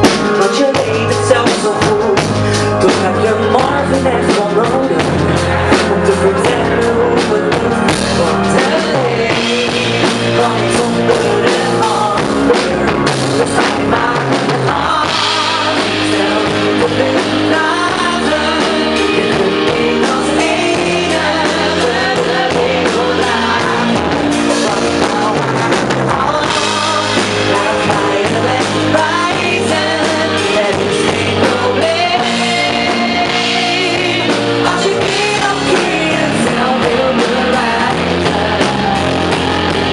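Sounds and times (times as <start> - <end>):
live band playing pop-rock: 0.0 - 39.9
person singing: 0.0 - 39.9.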